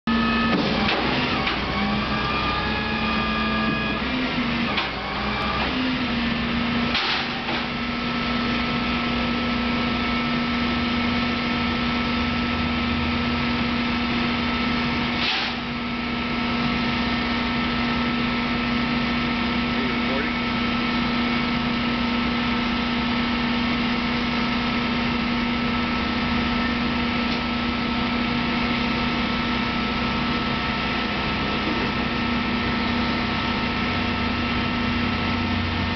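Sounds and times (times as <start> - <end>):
tow truck mechanical whining hum: 0.1 - 35.9.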